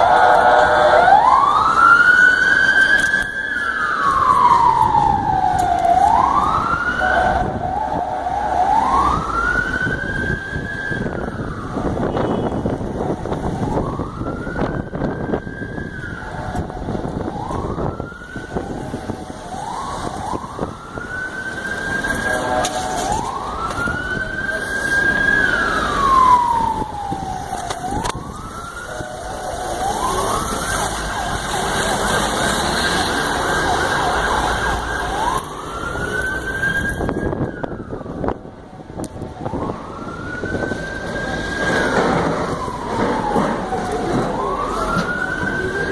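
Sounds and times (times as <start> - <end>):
emergency vehicle siren wailing: 0.0 - 45.9
traffic noise: 0.0 - 45.9.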